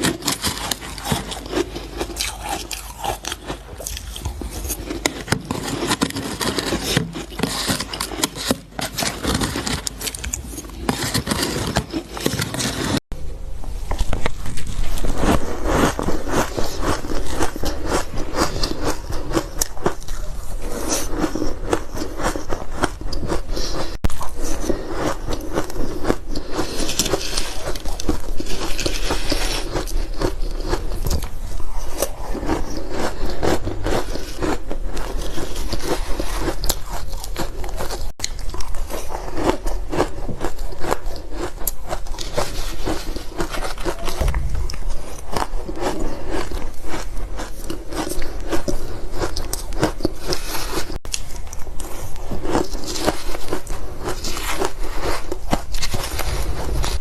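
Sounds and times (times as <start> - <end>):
chewing frozen ice crunches: 0.0 - 13.0, 14.0 - 57.0.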